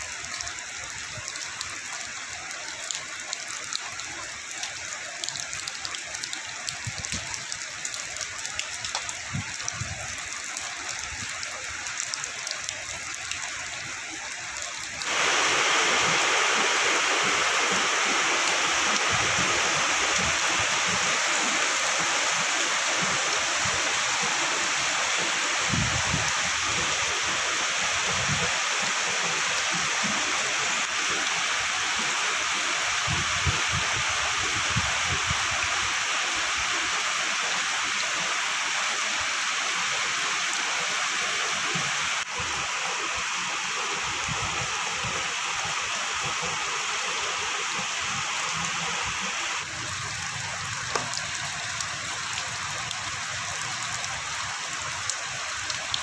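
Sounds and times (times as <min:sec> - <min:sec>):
heavy rain on water: 0:00.0 - 0:56.0.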